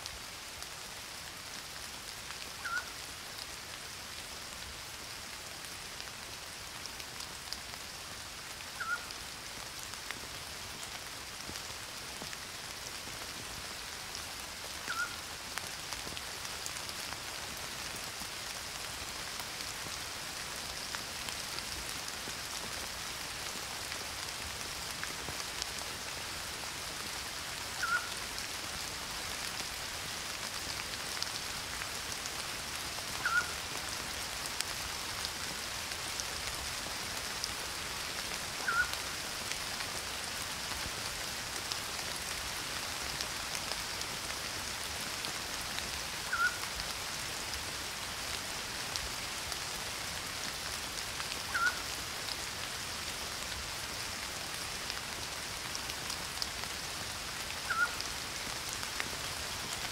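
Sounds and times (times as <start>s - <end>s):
rain on foliage: 0.0s - 59.9s.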